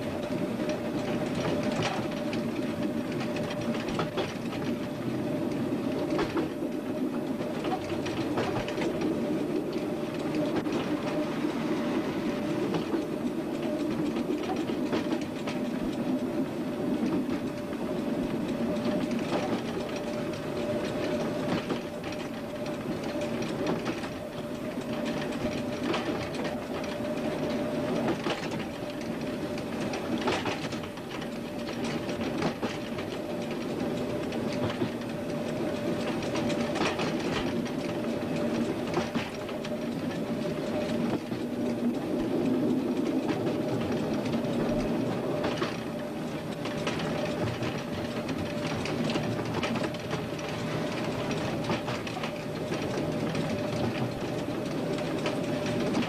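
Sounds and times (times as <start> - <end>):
train wheels clicking over rail joints: 0.0 - 11.2, 12.6 - 56.0
train running rumble: 0.0 - 56.0.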